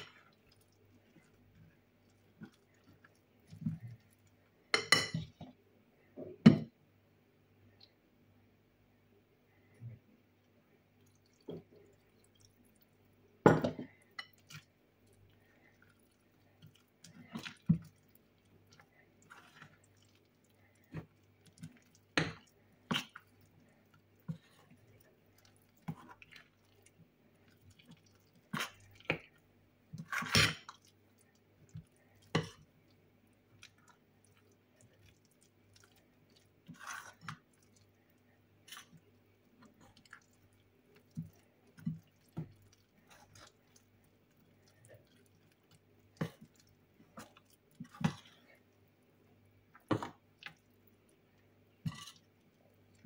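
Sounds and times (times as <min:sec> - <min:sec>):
spoon stirring thick batter: 0:00.0 - 0:06.6, 0:09.5 - 0:53.0.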